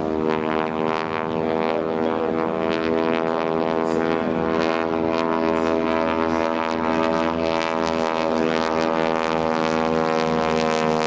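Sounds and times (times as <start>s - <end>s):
radial aircraft engine and propeller: 0.0s - 11.0s.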